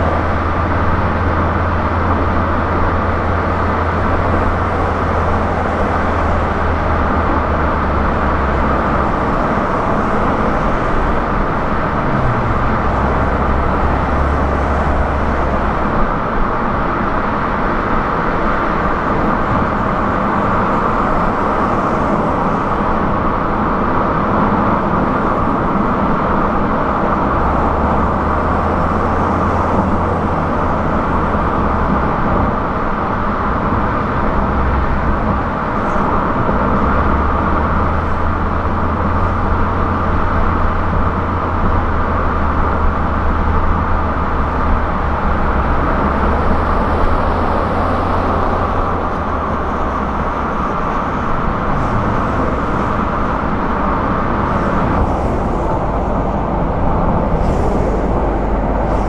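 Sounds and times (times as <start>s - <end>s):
low engine drone: 0.0s - 59.0s
tyre and road noise: 0.0s - 59.0s.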